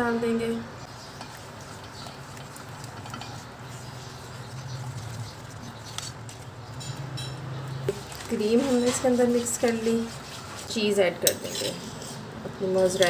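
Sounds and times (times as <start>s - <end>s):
whisk stirring sauce: 0.9s - 13.0s.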